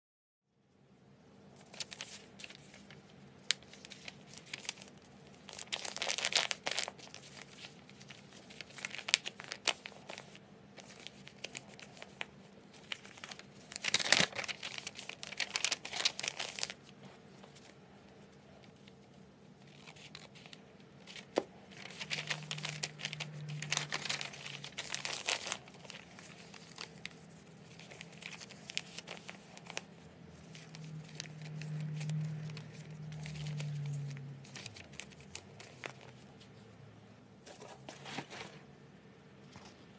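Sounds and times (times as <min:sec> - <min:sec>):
paper rustling and crinkling: 0:01.6 - 0:36.7, 0:37.4 - 0:38.7.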